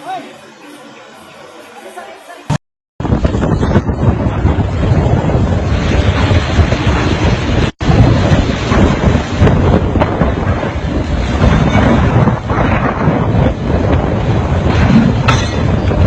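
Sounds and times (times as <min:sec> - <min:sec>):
wind buffeting microphone: 0:03.0 - 0:16.0.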